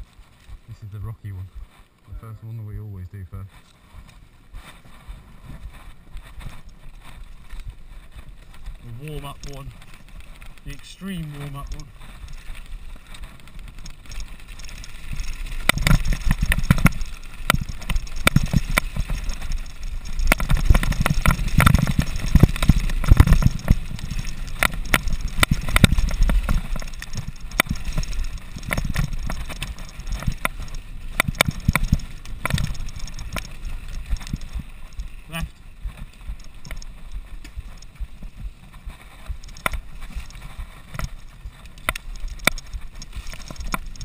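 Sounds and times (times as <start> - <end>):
bike rattling over loose stones: 0.0 - 44.0
wind rumble on microphone: 3.3 - 44.0.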